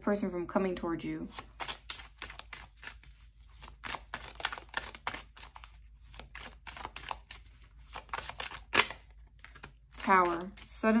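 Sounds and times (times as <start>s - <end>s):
cards being shuffled: 1.3s - 10.8s.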